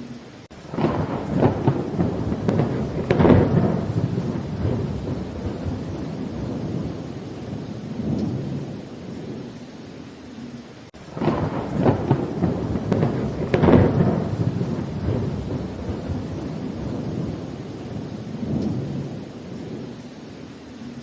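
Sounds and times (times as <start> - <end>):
rain falling: 0.0 - 21.0
rolling thunder: 0.6 - 9.5, 11.0 - 20.1.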